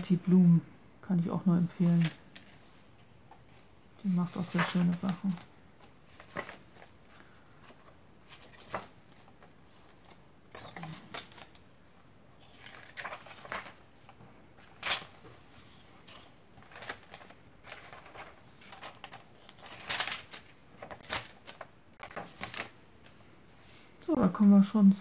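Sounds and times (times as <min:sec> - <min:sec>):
paper pages rustling and flapping: 0:01.8 - 0:23.2.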